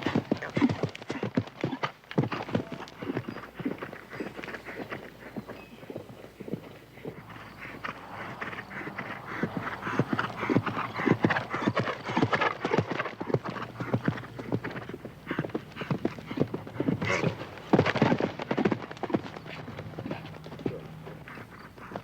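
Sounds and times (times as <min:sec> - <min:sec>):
horse hoofbeats: 0:00.0 - 0:22.0.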